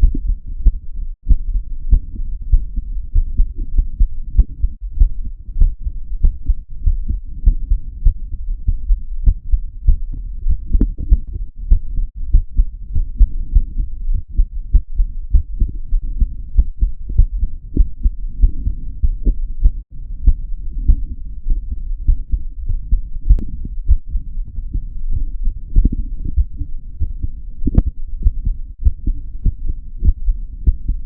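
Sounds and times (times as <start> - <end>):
heartbeat thumps: 0.0 - 31.0.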